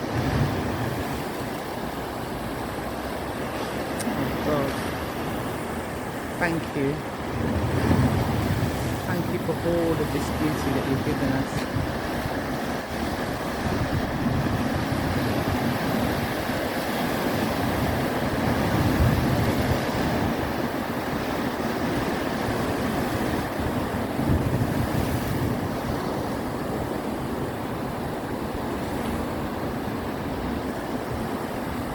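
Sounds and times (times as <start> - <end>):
ocean surf breaking: 0.0 - 31.9
wind buffeting microphone: 4.0 - 31.9.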